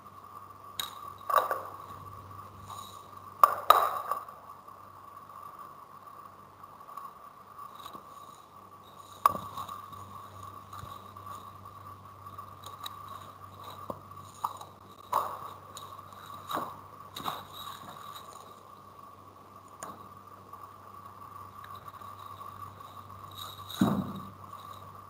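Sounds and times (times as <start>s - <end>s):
faint whine: 0.0s - 25.0s
low hum: 0.0s - 25.0s.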